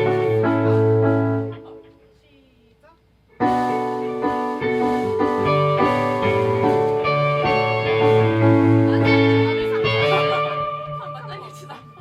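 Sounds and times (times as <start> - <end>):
steady bass line: 0.0 - 1.6, 3.4 - 12.0
keyboard chords: 0.0 - 2.0, 3.3 - 12.0
guitar: 0.0 - 12.0.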